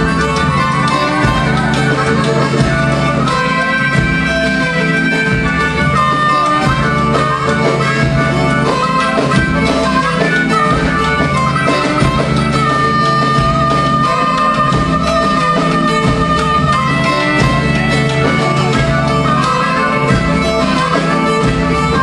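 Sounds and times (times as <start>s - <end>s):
amplified harmonica: 0.0s - 22.0s
drums: 0.0s - 22.0s.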